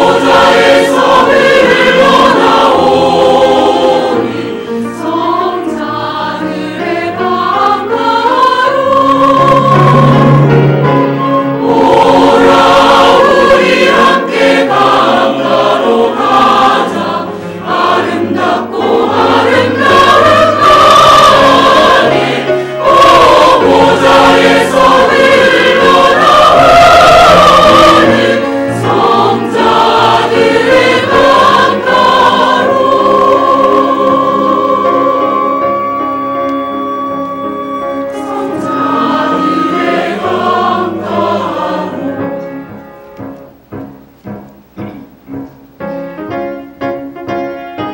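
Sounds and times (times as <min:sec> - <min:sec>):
choir singing with accompaniment: 0:00.0 - 0:45.9.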